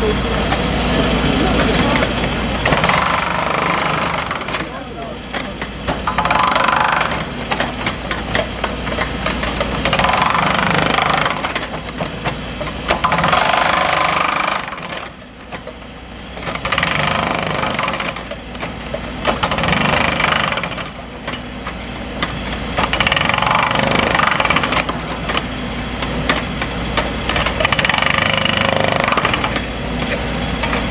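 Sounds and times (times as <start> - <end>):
engine running: 0.0 - 30.9
pneumatic breaker hammering: 1.8 - 30.9.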